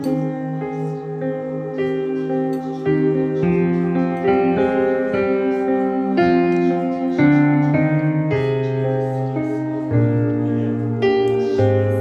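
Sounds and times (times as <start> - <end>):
keyboard playing slow chords: 0.0 - 12.0.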